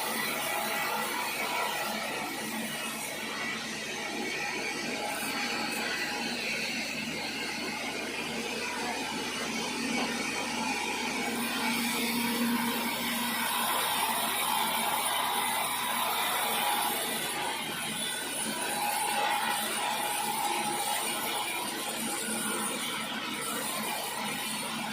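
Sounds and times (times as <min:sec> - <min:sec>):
sawmill saw cutting log: 0:00.0 - 0:24.9.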